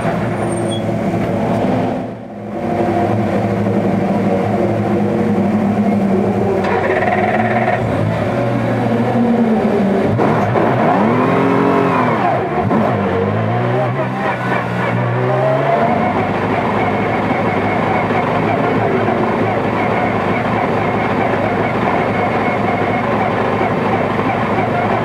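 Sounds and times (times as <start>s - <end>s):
engine idling and revving: 0.0s - 25.0s.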